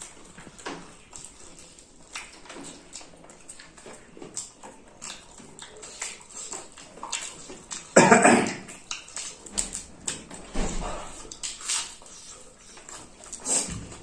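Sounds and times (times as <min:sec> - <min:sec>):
lip smacks: 0:00.0 - 0:14.0
wet chewing: 0:00.0 - 0:14.0.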